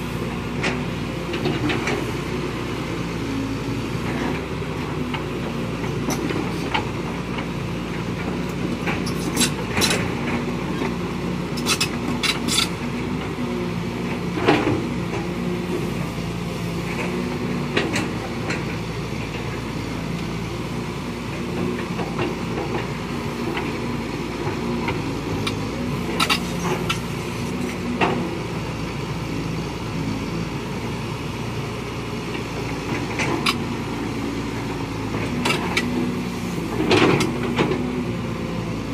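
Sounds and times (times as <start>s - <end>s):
excavator diesel engines running: 0.0s - 38.9s.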